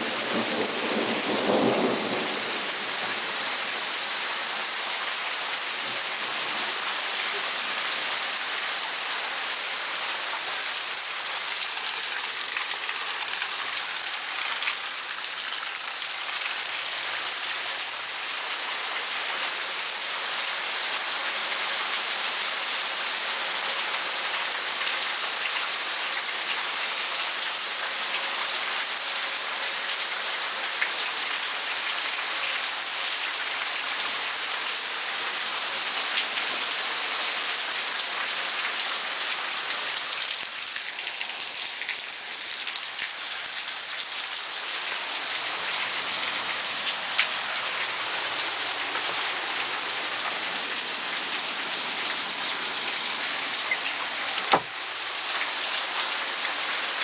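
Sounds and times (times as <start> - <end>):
rain falling steadily: 0.0 - 57.0.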